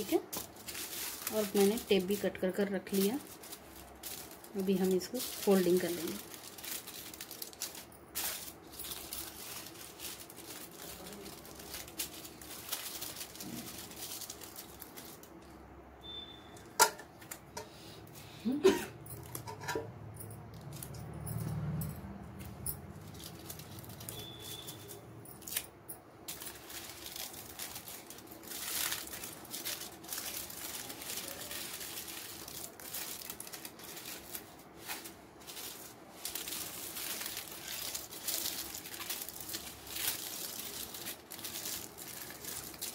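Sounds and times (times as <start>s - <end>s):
aluminium foil crinkling: 0.0s - 15.4s, 22.8s - 42.9s.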